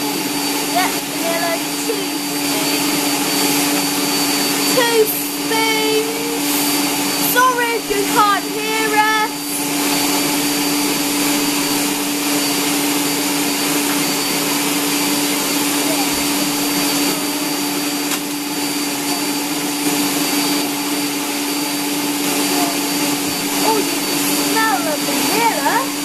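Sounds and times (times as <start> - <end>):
stand mixer motor humming: 0.0 - 26.0.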